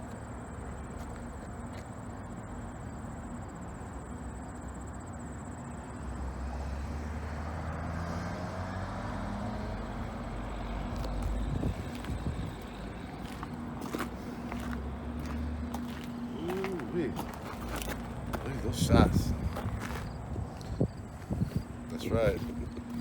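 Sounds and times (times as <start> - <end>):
large diesel engine humming: 0.0 - 23.0.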